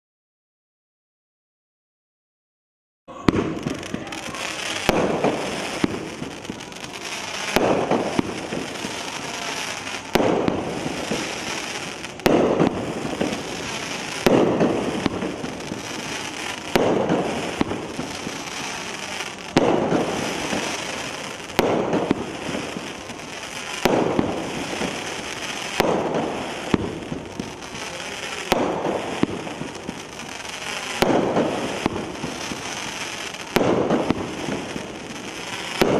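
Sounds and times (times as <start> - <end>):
firework bangs: 3.1 - 35.9
firework crackle: 3.1 - 35.9.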